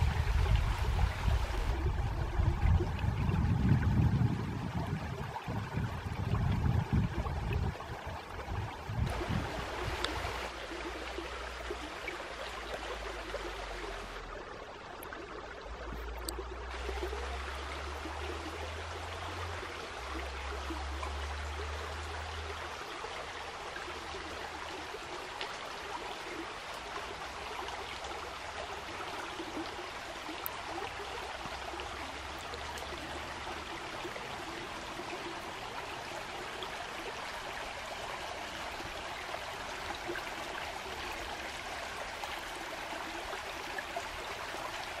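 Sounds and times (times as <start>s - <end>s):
stream running: 0.0s - 45.0s.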